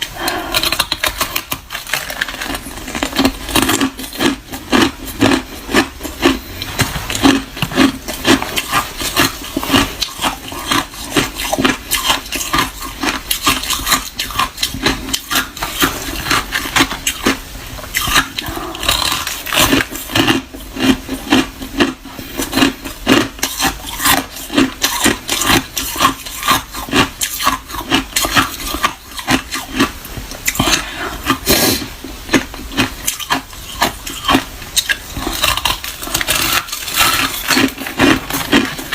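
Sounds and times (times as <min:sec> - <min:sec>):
person chewing ice: 0:00.0 - 0:38.9.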